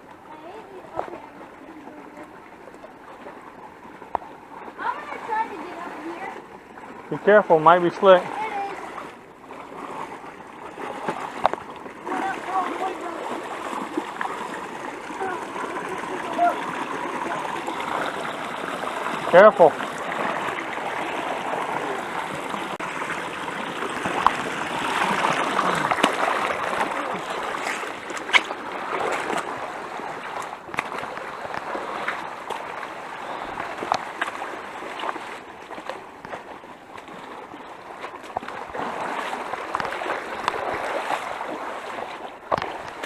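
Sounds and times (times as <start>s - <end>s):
stream rushing over stones: 0.0s - 43.0s.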